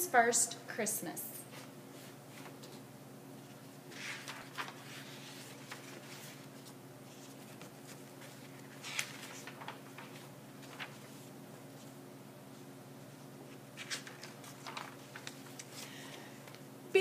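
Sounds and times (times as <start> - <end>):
steady low hum: 0.0 - 17.0
book pages rustling: 1.5 - 16.6.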